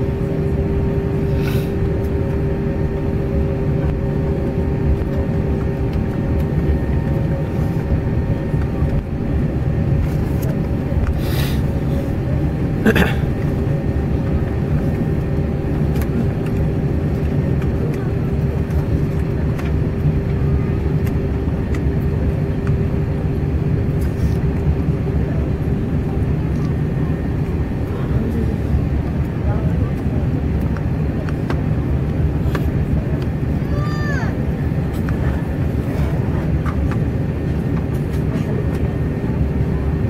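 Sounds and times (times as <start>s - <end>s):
jet engines idling rumble: 0.0s - 40.0s
steady hum: 0.0s - 40.0s.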